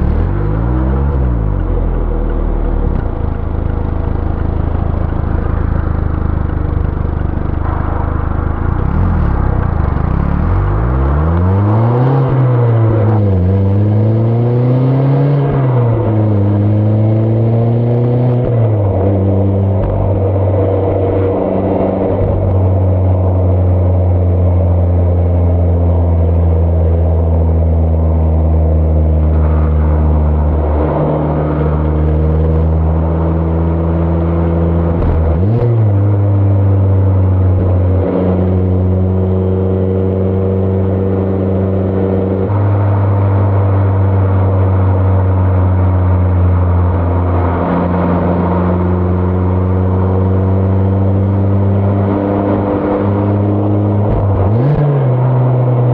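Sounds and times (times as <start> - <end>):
car engine accelerating through gears: 0.0 - 55.9.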